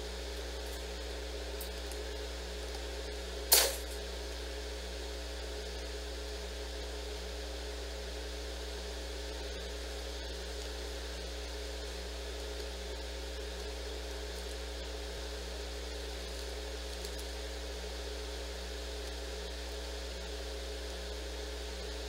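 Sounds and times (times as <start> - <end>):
mechanical room hum: 0.0 - 22.0.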